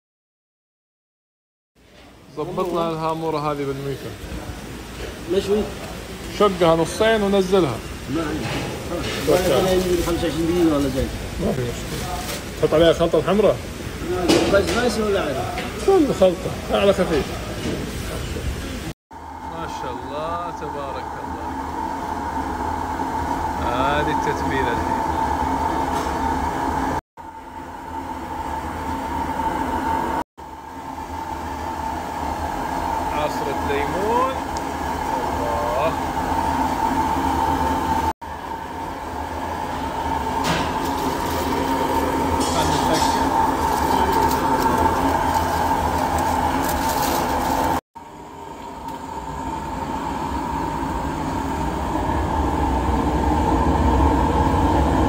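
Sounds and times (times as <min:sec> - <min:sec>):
machinery hum with high whine: 0:01.8 - 0:55.0.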